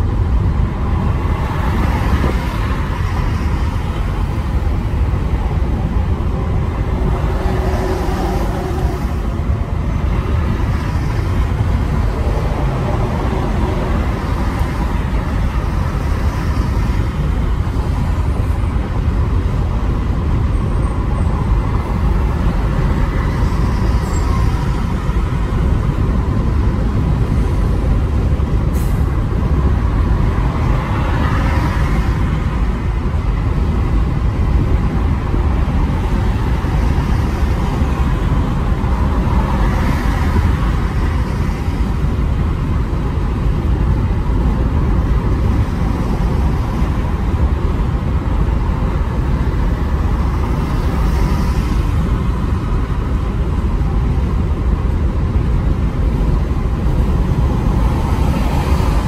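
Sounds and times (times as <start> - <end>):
car road and engine drone: 0.0 - 59.0.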